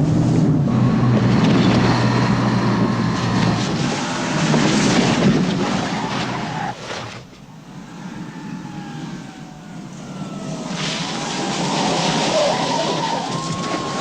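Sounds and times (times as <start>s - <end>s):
faint falling engine whine: 0.0s - 6.7s, 7.3s - 14.0s
engines running hard: 0.0s - 14.0s.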